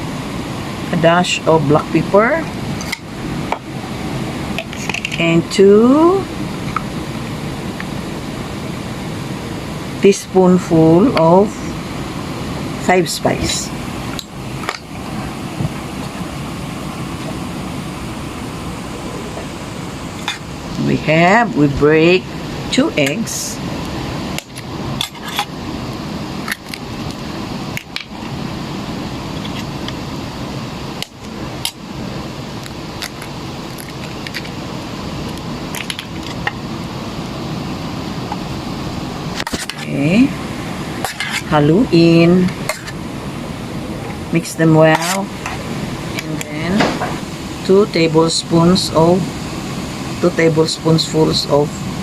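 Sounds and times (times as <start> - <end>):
air conditioner whir: 0.0 - 52.0
background hiss: 0.0 - 52.0.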